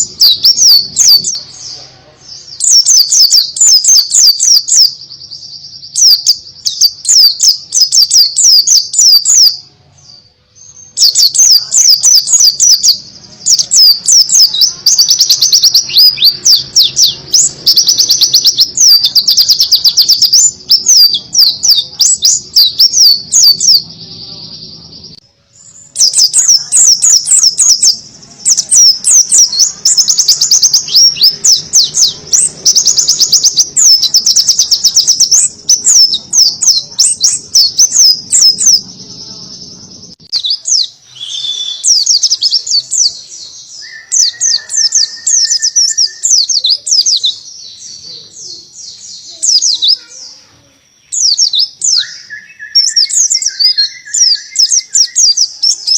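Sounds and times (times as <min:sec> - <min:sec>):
bird singing rapid high chirps: 0:00.0 - 0:55.9.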